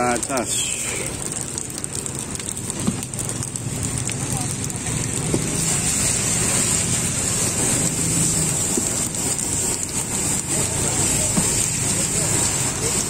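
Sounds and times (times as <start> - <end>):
batter sizzling in a pan: 0.0 - 13.0.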